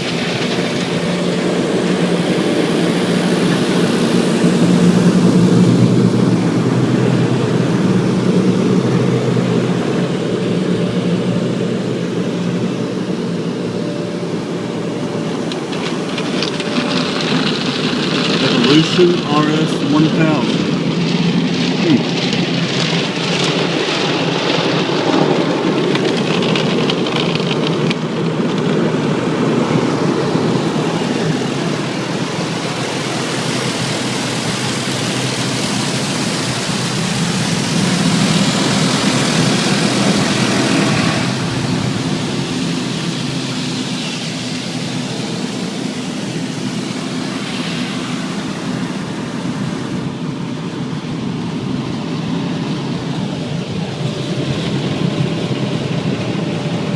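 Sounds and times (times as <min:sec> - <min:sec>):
car wash air dryers roaring: 0:00.0 - 0:56.9.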